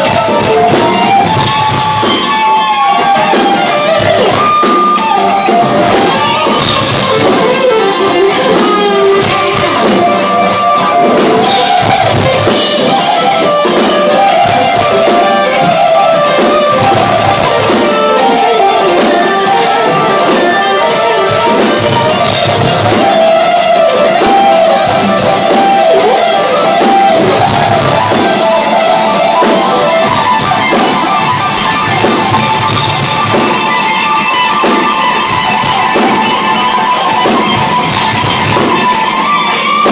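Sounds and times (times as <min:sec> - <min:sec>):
lead electric guitar melody: 0:00.0 - 0:39.9
live rock band playing: 0:00.0 - 0:39.9.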